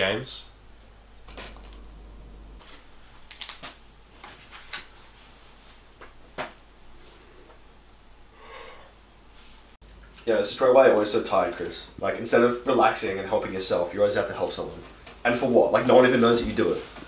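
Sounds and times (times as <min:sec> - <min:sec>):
faint low room hum: 0:00.0 - 0:17.0.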